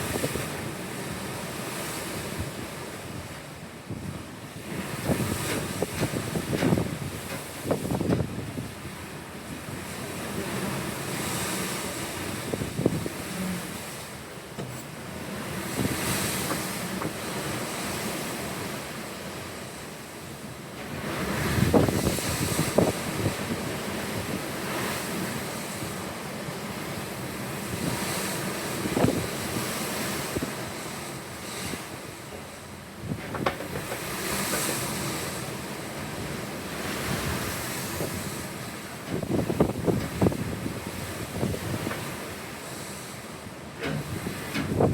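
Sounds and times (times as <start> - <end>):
wind buffeting microphone: 0.0 - 19.8, 20.9 - 44.9
ocean waves washing: 0.0 - 44.9.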